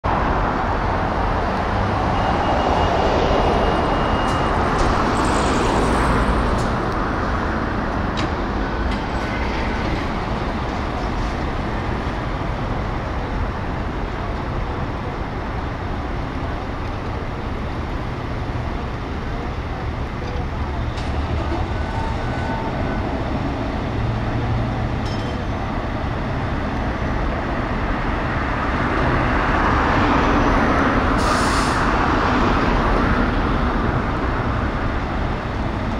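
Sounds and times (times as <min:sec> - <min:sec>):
road traffic rumble: 0:00.0 - 0:35.9.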